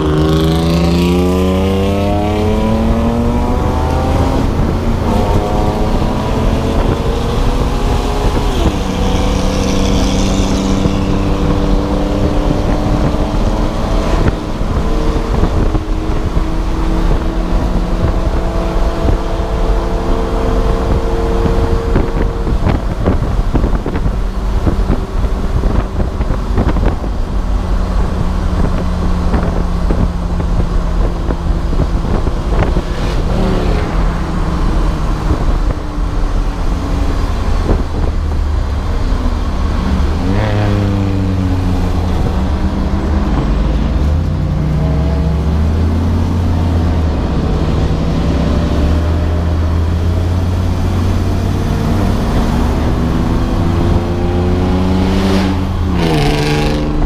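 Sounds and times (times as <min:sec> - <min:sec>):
race car engine running hard: 0:00.0 - 0:57.0
wind and road noise: 0:00.0 - 0:57.0.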